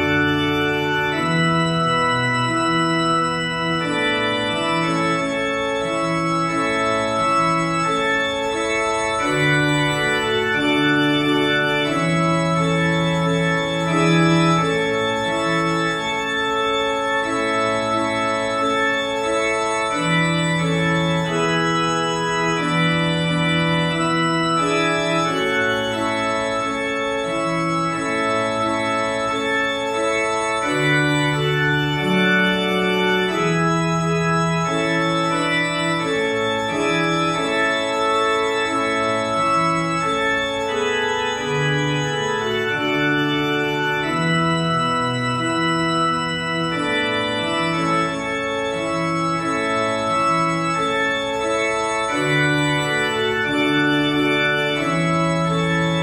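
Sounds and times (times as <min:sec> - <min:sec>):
organ playing hymn chords: 0:00.0 - 0:56.0.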